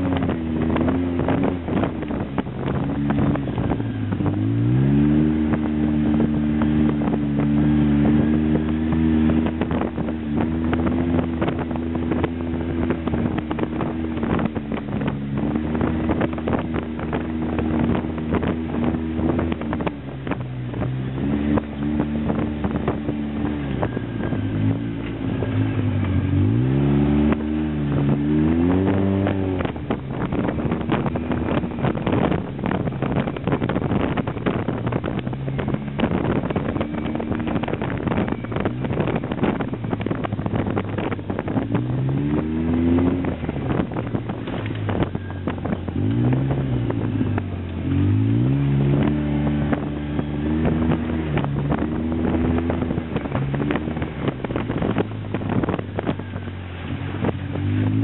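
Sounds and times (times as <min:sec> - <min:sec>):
engine revving: 0:00.0 - 0:58.0
knocks and rattles of vehicle: 0:00.0 - 0:58.0
wind on microphone: 0:00.0 - 0:58.0.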